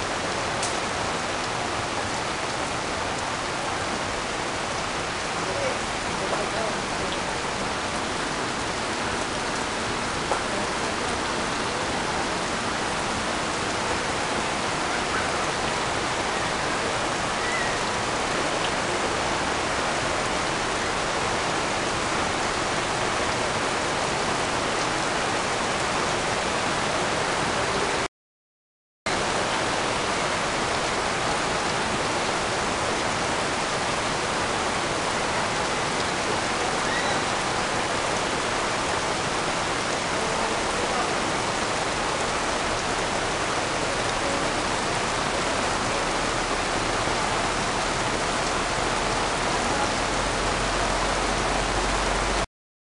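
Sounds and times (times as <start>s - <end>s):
heavy rain falling: 0.0s - 28.1s, 29.1s - 52.5s.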